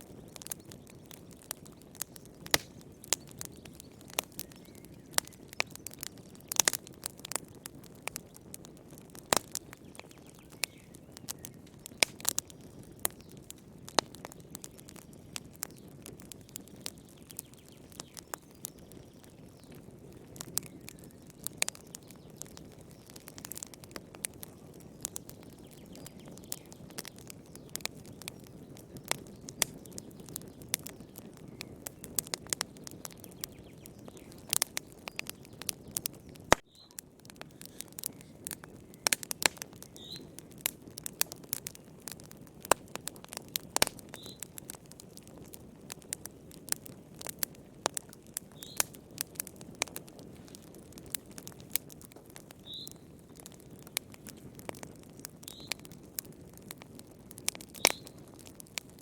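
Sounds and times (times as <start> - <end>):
fire pops and snaps: 0.0 - 59.0
low rush of burning fire: 0.0 - 59.0.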